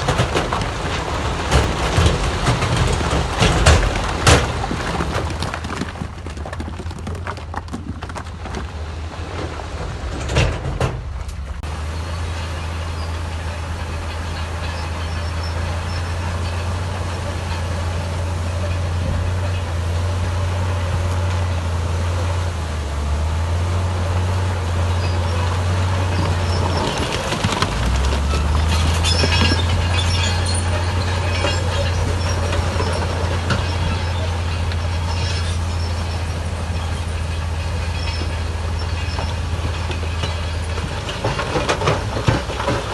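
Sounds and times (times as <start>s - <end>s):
diesel machinery engine drone: 0.0s - 6.3s, 7.4s - 42.9s
metal clanking and rattling: 0.0s - 21.8s, 24.3s - 42.9s.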